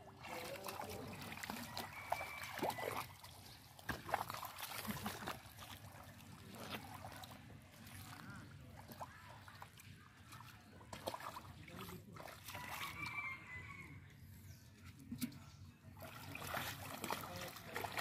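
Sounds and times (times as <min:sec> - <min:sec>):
hands splashing in muddy water: 0:00.0 - 0:13.2, 0:16.0 - 0:18.0.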